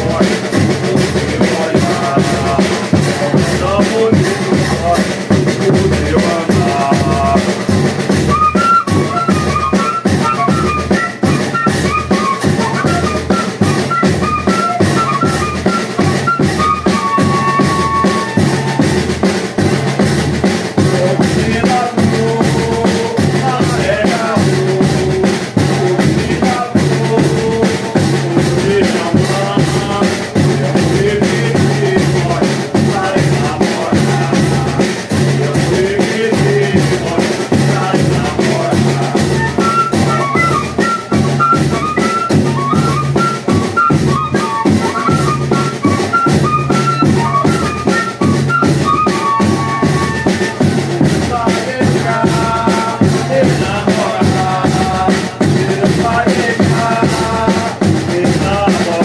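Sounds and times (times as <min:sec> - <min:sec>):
bass drum beat: 0:00.0 - 0:59.0
snare drum: 0:00.0 - 0:59.0.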